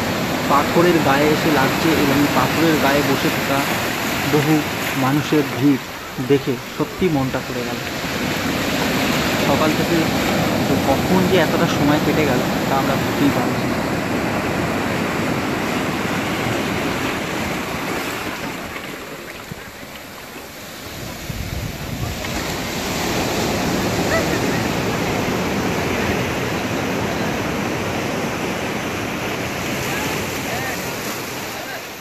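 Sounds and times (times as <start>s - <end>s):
sea surf breaking over rocks: 0.0s - 32.0s.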